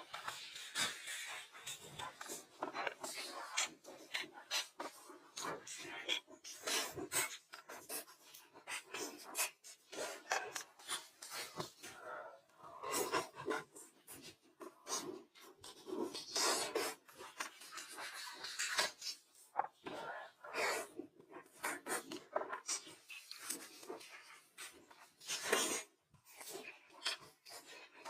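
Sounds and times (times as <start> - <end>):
crunching and chewing food: 0.0 - 28.0.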